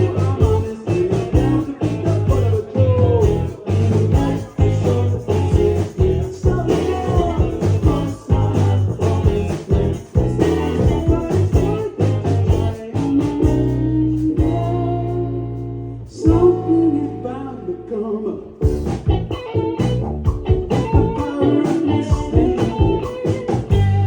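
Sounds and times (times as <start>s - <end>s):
person singing: 0.0s - 15.5s, 16.1s - 18.6s, 21.0s - 24.0s
live band playing: 0.0s - 17.3s, 18.5s - 24.0s.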